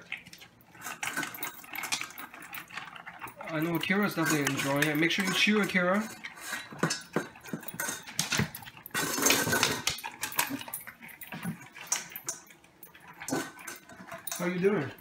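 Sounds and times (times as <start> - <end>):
dog crunching kibble: 0.0 - 14.9.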